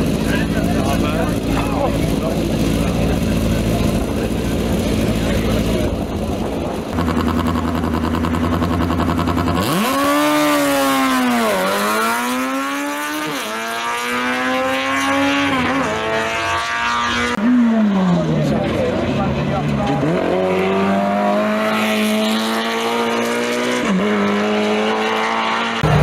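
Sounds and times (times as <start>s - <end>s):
race car engine: 0.0s - 26.0s.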